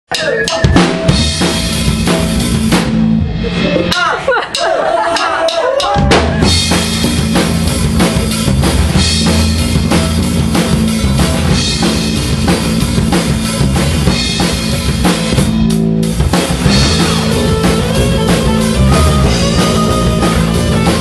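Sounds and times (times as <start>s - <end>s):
drum kit beat: 0.1s - 21.0s
electric bass line: 0.3s - 4.0s, 5.9s - 21.0s.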